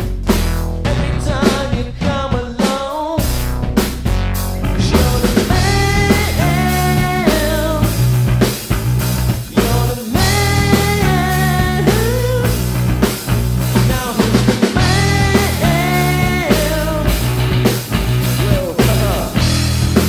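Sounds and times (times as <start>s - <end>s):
drum kit: 0.0s - 20.0s
electric bass guitar: 0.0s - 20.0s.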